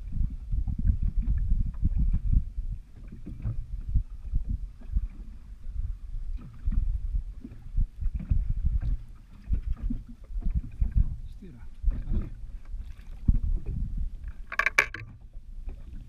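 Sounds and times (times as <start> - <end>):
water slapping boat hull: 0.0 - 16.0
wind buffeting microphone: 0.0 - 16.0.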